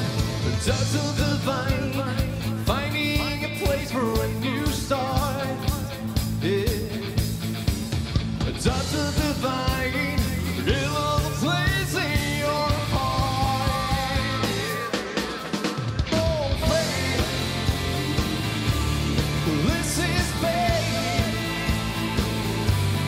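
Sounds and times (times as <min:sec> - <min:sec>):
man singing: 0:00.0 - 0:07.4, 0:08.4 - 0:22.4
live rock band playing: 0:00.0 - 0:23.0.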